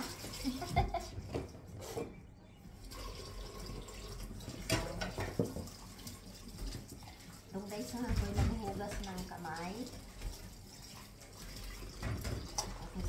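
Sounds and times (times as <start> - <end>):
tap water running into sink: 0.0 - 1.6, 2.7 - 13.0.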